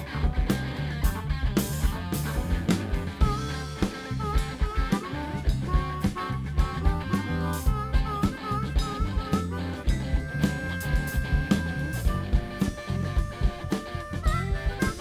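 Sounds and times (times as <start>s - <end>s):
blues-rock band playing: 0.0s - 15.0s
guitar bent notes: 0.0s - 15.0s.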